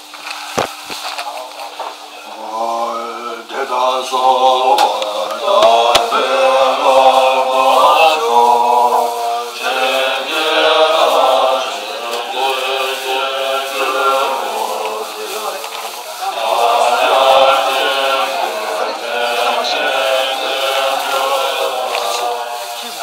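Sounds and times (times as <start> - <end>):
voices chanting prayers: 1.2 - 23.0.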